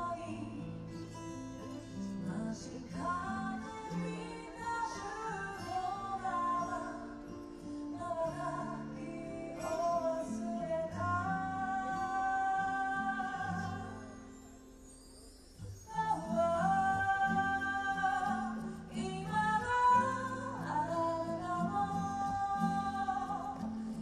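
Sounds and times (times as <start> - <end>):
woman singing: 0.0 - 14.4, 15.9 - 24.0.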